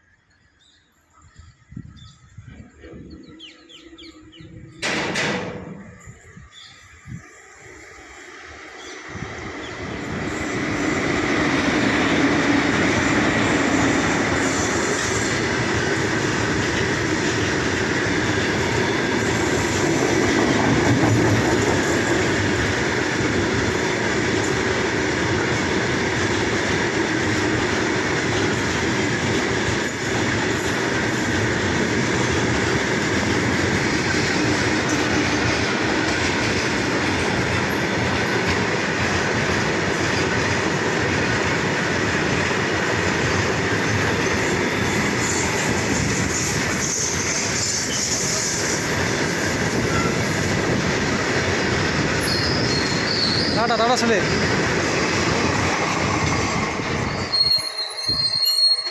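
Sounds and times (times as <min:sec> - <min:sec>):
train wheels on rails: 0:00.9 - 0:58.9.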